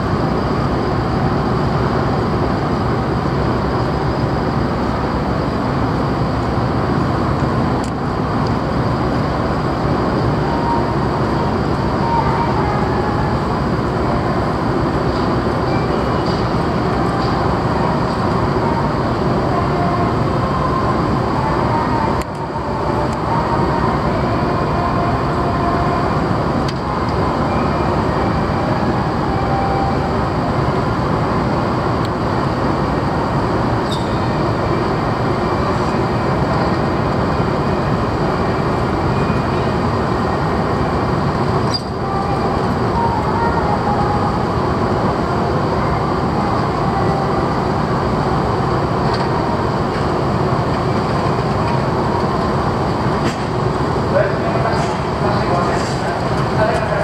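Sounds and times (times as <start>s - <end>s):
ferry diesel engines rumbling: 0.0s - 57.0s.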